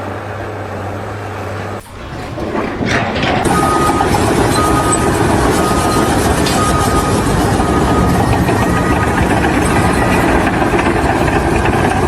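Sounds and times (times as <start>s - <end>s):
engine running: 0.3s - 12.0s.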